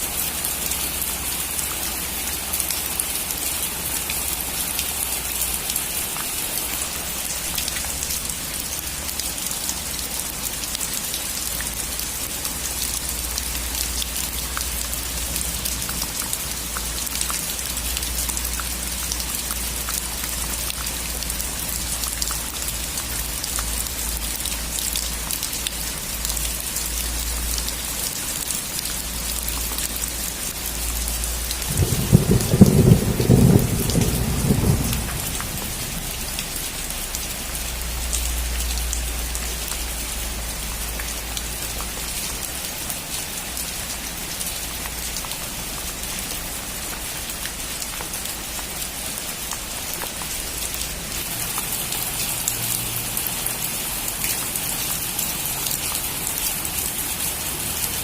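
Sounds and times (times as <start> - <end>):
rain falling on a roof: 0.0 - 58.0.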